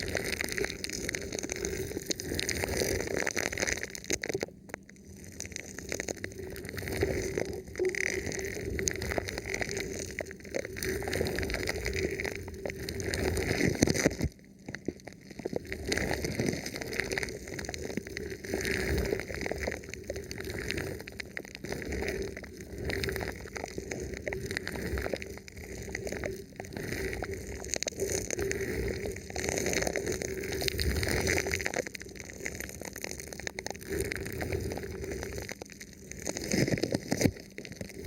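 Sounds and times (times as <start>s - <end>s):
plastic film crinkling on microphone: 0.0s - 38.0s.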